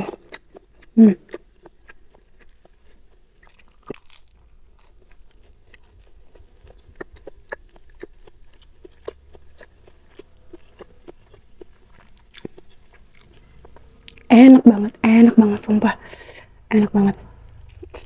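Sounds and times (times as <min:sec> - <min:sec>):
person chewing crisp lettuce: 0:00.0 - 0:14.3, 0:17.4 - 0:18.0.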